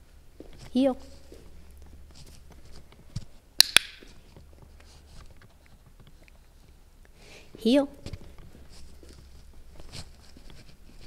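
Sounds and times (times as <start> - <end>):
feet and paws tapping on concrete: 0.4 - 6.8, 7.5 - 11.0.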